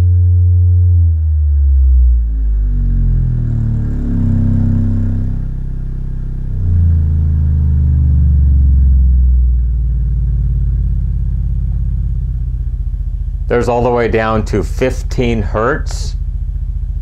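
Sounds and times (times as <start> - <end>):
low bass test tone: 0.0 - 17.0.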